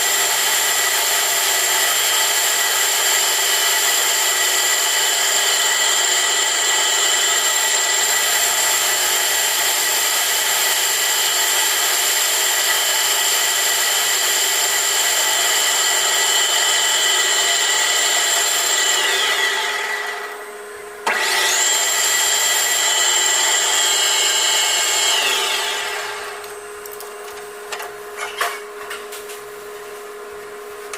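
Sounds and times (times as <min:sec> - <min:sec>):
metal lathe whining: 0:00.0 - 0:27.0.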